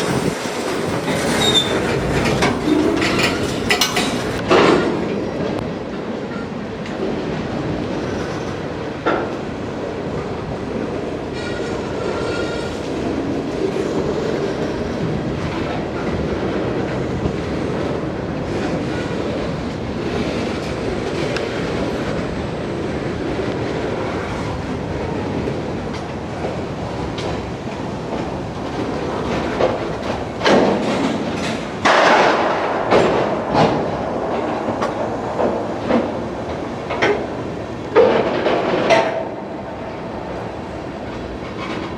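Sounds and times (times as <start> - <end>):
sharp train clanks and clacks: 0.0 - 41.9
train wheels rumbling on rail: 0.0 - 41.9.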